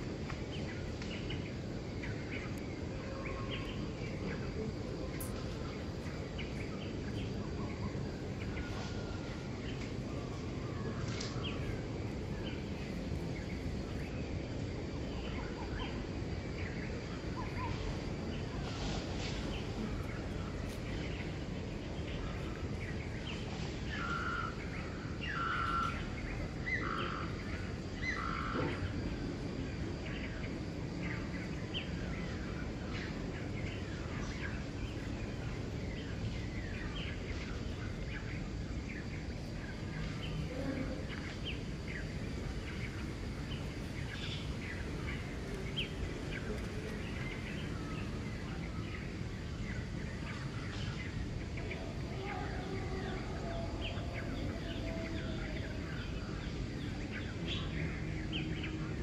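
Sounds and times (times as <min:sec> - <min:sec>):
birds chirping: 0:00.4 - 0:59.0.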